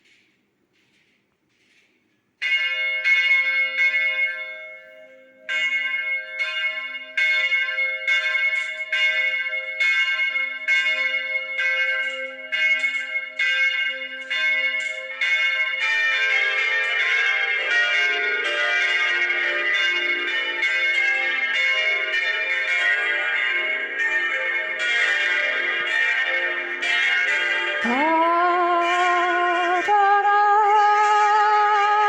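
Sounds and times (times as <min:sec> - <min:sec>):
church bells ringing: 0:02.4 - 0:32.0.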